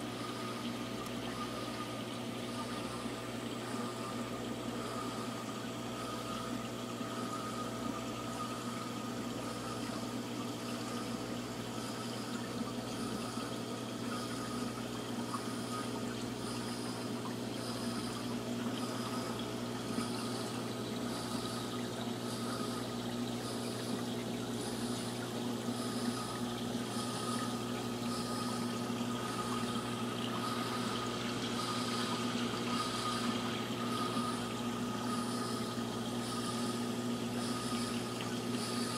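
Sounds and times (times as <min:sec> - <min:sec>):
aquarium pump humming: 0:00.0 - 0:38.9
faint regular pulsing: 0:00.0 - 0:38.9.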